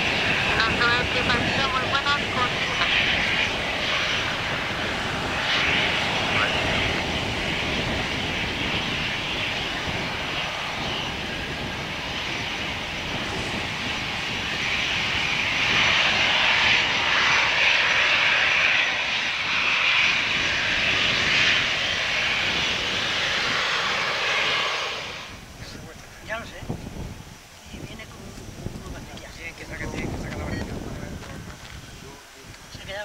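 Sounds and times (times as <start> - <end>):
jet engines taxiing hiss and whine: 0.0 - 33.0.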